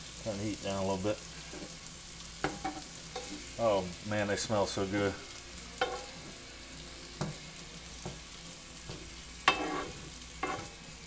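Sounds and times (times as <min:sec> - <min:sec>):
meatballs sizzling in skillet: 0:00.0 - 0:11.0.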